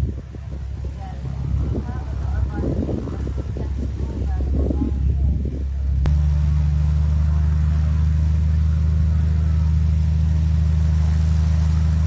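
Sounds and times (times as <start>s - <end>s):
plane engine and propeller drone: 0.0s - 12.0s.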